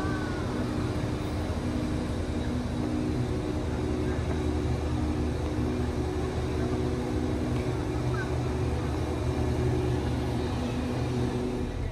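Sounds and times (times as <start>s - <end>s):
train diesel engine running: 0.0s - 11.9s.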